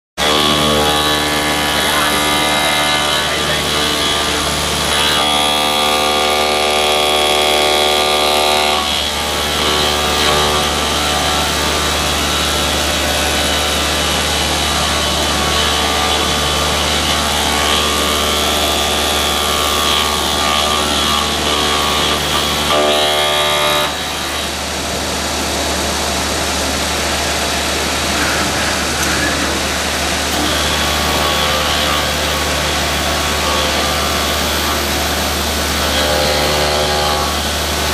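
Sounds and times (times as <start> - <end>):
milling machine cutting whine: 0.2 - 37.9.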